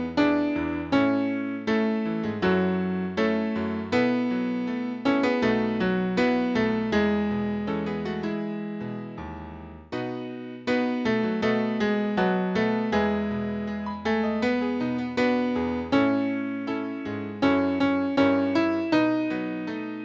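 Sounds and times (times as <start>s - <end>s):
piano chords: 0.0s - 20.0s.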